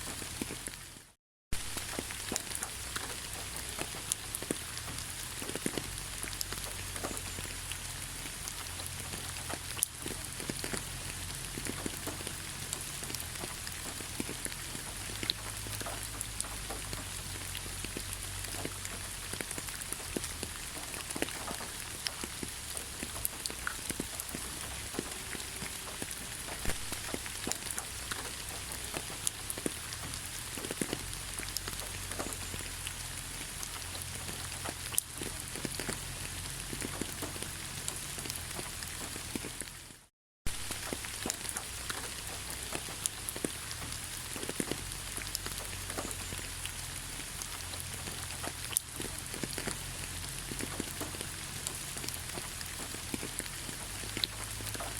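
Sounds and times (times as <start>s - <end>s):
raindrops ticking: 0.0s - 54.9s
steady rain hiss: 0.0s - 54.9s.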